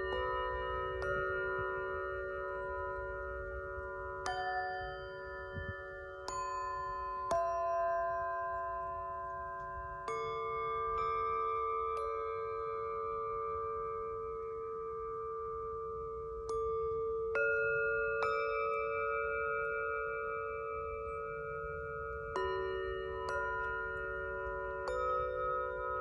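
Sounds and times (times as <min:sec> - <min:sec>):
singing bowls struck and ringing: 0:00.0 - 0:26.0.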